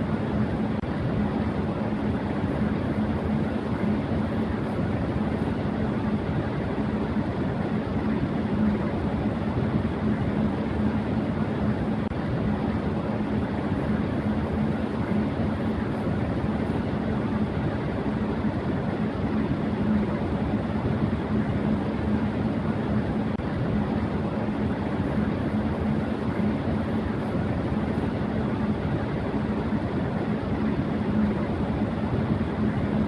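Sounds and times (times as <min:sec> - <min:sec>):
electric fan running: 0:00.0 - 0:33.0.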